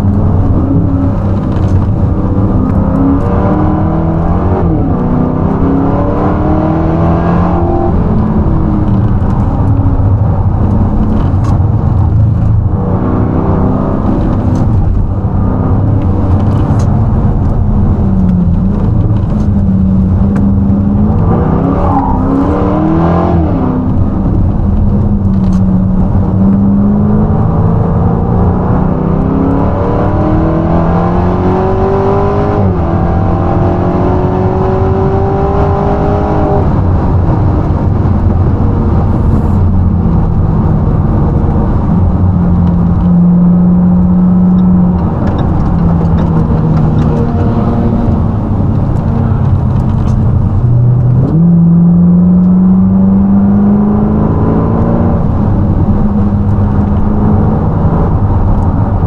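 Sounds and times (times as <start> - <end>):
gear changes: 0.0 - 59.0
race car engine revving: 0.0 - 59.0.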